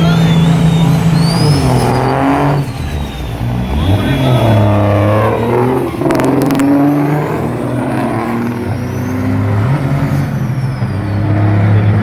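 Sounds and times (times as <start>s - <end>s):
diesel engine droning under load: 0.0s - 12.0s.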